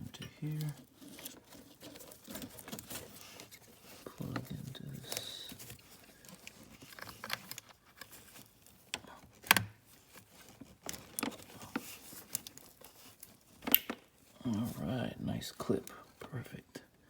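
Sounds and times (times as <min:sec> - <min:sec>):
cables rustling: 0:00.0 - 0:16.3.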